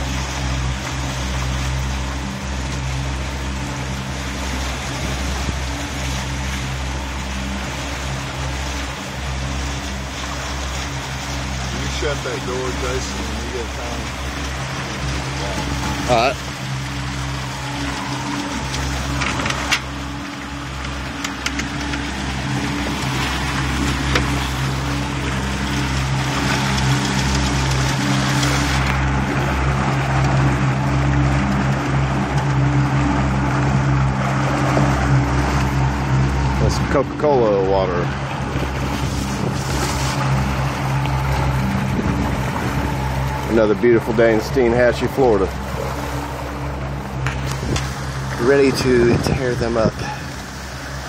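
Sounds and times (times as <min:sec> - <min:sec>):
motorboat engine humming: 0:00.0 - 0:51.0
water and wind hiss: 0:00.0 - 0:51.0.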